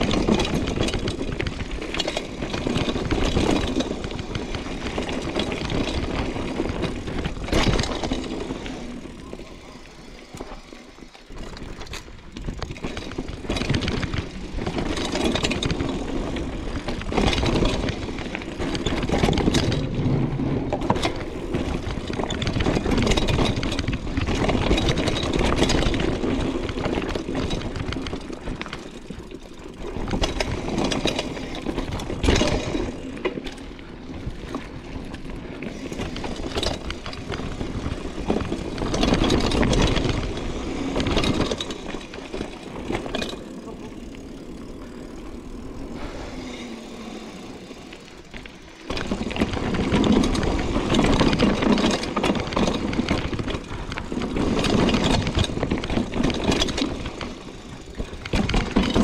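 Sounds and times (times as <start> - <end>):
bike rattling: 0.0 - 59.0
wind and tyres rushing: 0.0 - 59.0.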